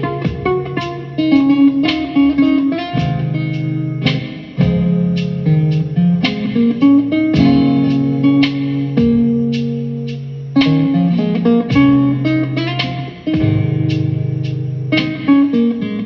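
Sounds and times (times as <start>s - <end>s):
bass line: 0.0s - 16.0s
plucked guitar music: 0.0s - 16.0s.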